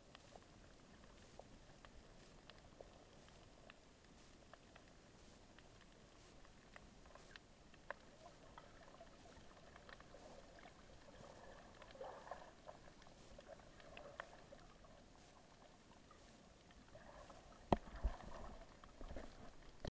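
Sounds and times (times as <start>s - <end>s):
muffled wash of water: 0.0s - 19.9s
underwater clicks and crackles: 0.0s - 19.9s.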